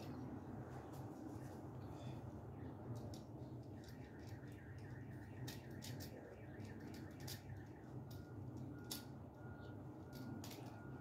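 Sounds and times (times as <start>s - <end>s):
low steady hum: 0.0s - 11.0s
wires clicking and scraping: 0.0s - 11.0s.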